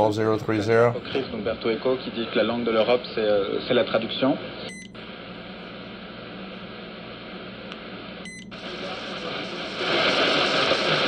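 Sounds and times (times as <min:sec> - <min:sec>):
radio hiss and static: 0:00.0 - 0:11.0
weak shortwave radio broadcast: 0:00.0 - 0:11.0.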